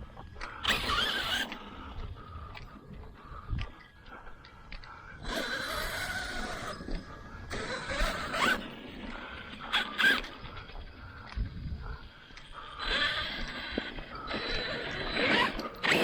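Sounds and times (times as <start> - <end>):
gravelly tire noise: 0.0 - 16.0
electric motor whining: 0.4 - 3.2, 5.2 - 16.0.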